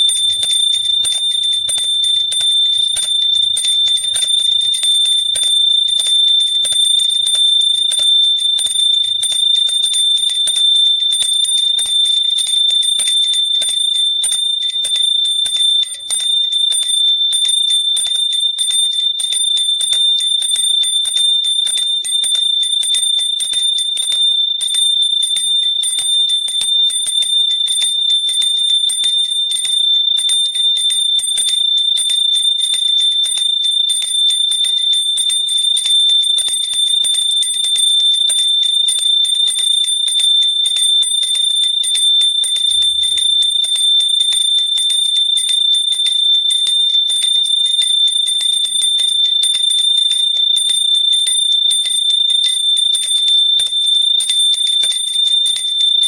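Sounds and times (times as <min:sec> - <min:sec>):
hand bell ringing: 0:00.0 - 0:56.0.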